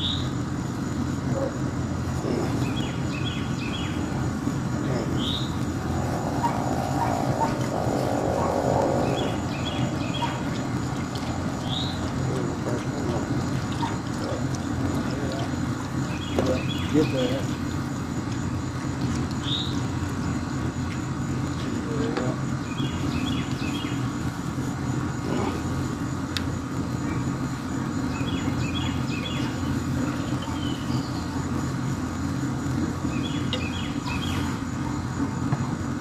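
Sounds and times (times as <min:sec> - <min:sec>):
birds chirping: 0:00.0 - 0:24.4, 0:26.9 - 0:36.0
low mechanical hum: 0:00.0 - 0:36.0.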